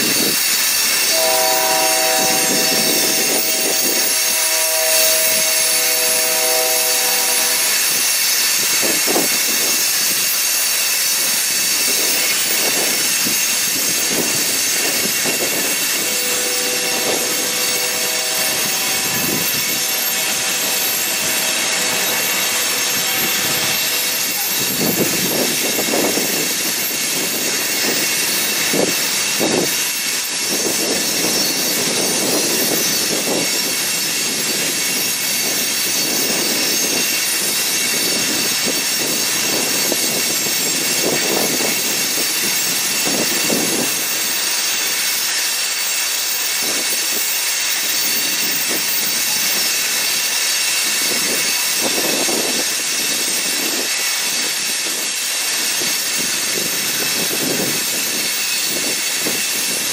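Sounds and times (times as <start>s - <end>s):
faint high wheel squeal: 0.0s - 59.9s
train wheels hissing on rail: 0.0s - 59.9s.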